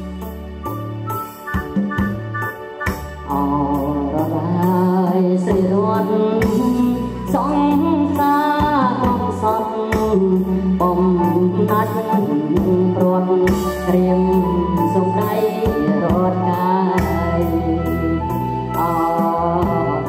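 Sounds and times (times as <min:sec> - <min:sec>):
electronic keyboard backing with beat: 0:00.0 - 0:20.0
person singing into microphone: 0:03.3 - 0:20.0.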